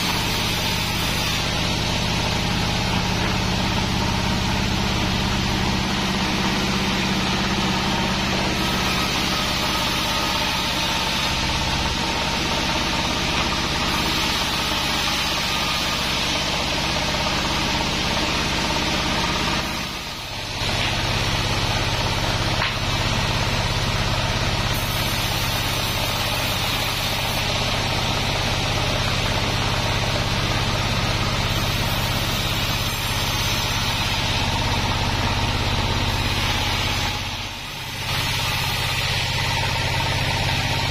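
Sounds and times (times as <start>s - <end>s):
band sawmill sawing log: 0.0s - 40.9s.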